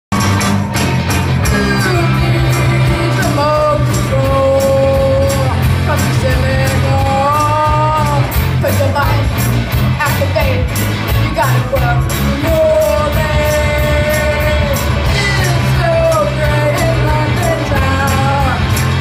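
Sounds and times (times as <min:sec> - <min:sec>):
bass guitar: 0:00.0 - 0:19.0
electric guitars: 0:00.1 - 0:19.0
steady drum beat: 0:00.1 - 0:19.0
singer holding long notes: 0:01.4 - 0:09.3, 0:11.3 - 0:19.0.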